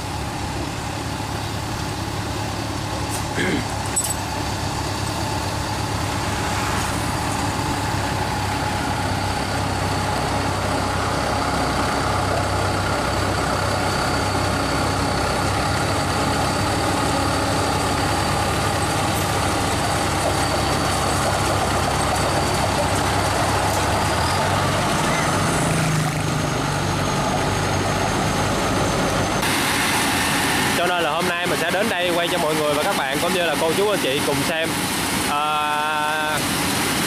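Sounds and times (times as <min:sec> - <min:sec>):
thin high whine: 0:00.0 - 0:36.9
tracked carrier engine running: 0:00.0 - 0:37.0.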